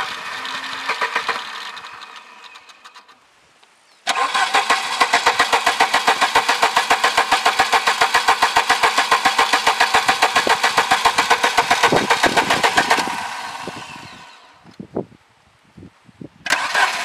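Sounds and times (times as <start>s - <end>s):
starter motor cranking engine: 0.0s - 3.2s, 4.1s - 14.6s, 16.4s - 17.0s.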